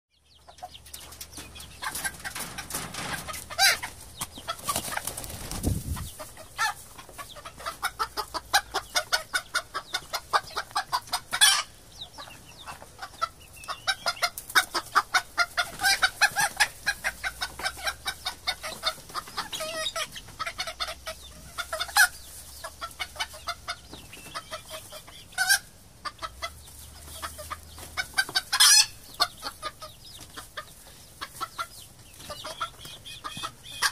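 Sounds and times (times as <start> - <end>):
hens clucking: 0.2 - 33.9.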